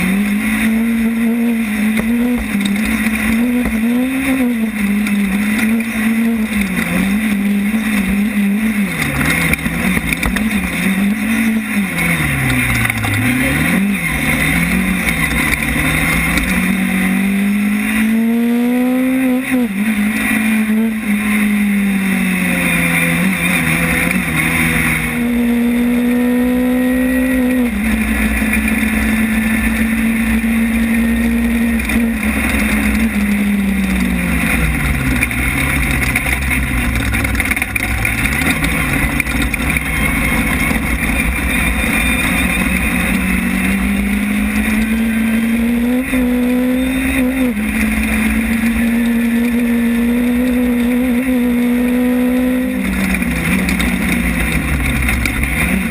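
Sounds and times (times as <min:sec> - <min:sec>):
race car engine running hard: 0:00.0 - 0:55.9.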